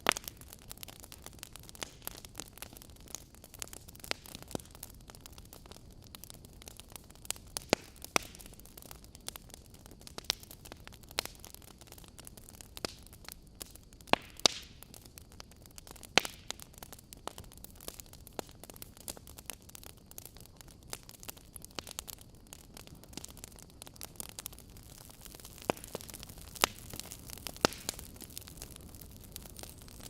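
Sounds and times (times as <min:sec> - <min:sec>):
fireplace crackling: 0:00.0 - 0:30.0
soft steady hiss: 0:00.0 - 0:30.0.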